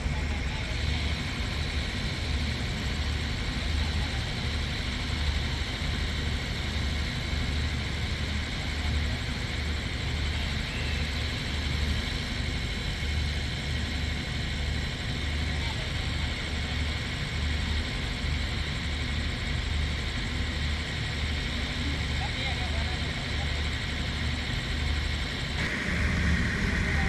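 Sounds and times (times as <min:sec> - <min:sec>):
diesel train engine throbbing: 0:00.0 - 0:27.0.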